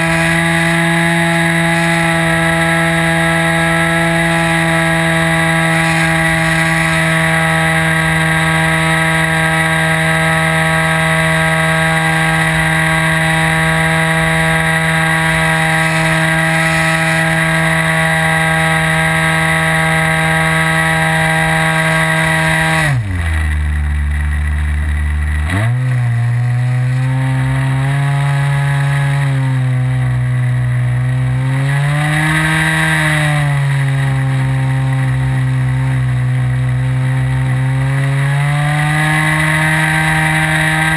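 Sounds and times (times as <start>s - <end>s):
model plane engine buzzing: 0.0s - 40.9s.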